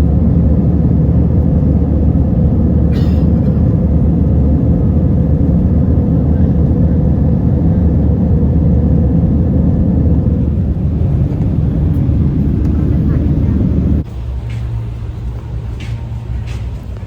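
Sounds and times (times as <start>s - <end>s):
engine rumble and rushing air: 0.0s - 17.0s.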